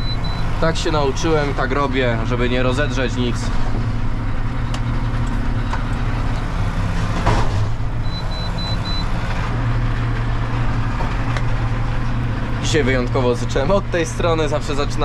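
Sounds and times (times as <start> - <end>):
round baler working: 0.0 - 15.0
tractor engine running under load: 0.0 - 15.0.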